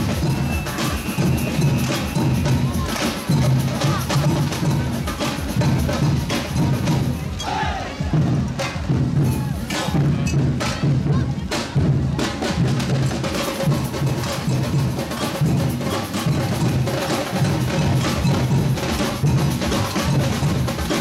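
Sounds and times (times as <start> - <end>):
drums beating a driving rhythm: 0.0 - 21.0
sharp percussion hits: 0.0 - 21.0.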